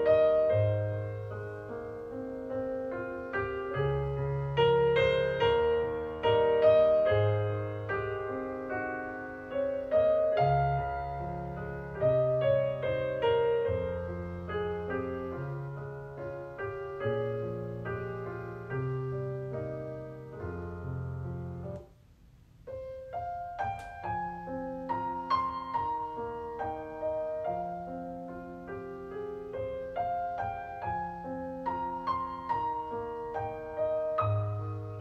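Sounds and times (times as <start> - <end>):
gentle piano piece: 0.0 - 35.0.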